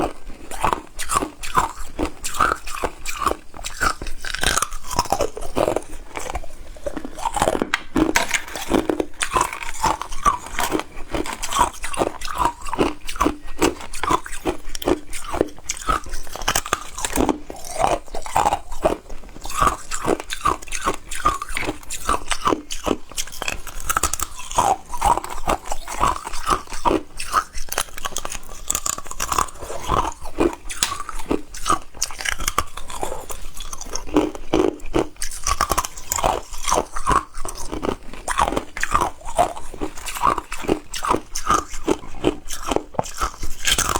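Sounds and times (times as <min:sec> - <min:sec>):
teeth crunching ice cubes: 0:00.0 - 0:43.9.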